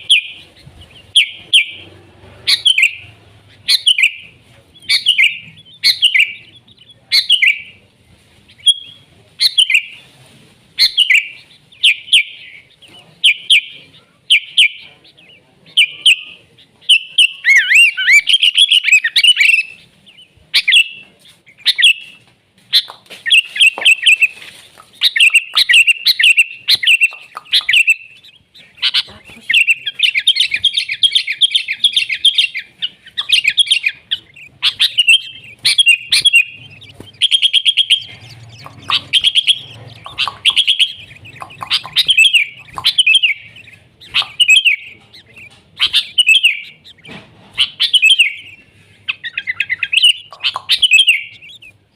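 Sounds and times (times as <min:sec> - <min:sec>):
bulbul calling: 0:00.0 - 0:07.8, 0:10.8 - 0:51.9.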